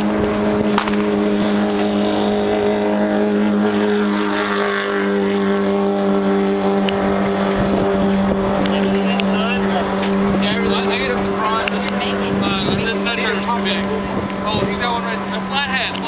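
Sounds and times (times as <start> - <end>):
engine droning: 0.0 - 16.0
road noise: 0.0 - 16.0.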